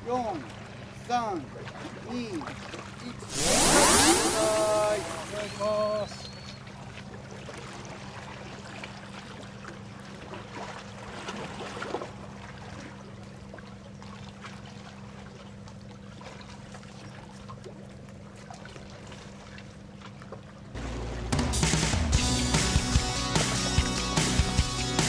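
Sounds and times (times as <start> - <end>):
idling boat engine hum: 0.0 - 3.3, 5.5 - 25.0.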